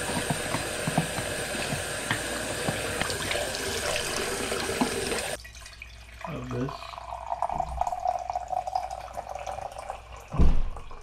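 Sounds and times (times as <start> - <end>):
tap water running into sink: 0.0 - 11.0
water pouring into basin: 0.0 - 11.0.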